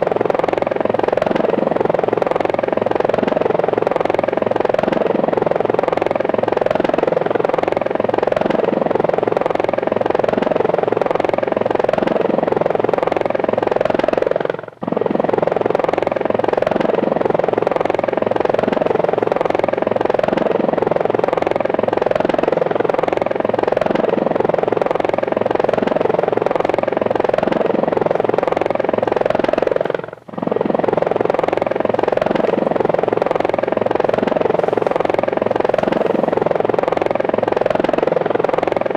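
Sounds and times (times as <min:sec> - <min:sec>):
drone motors buzzing: 0:00.0 - 0:38.9.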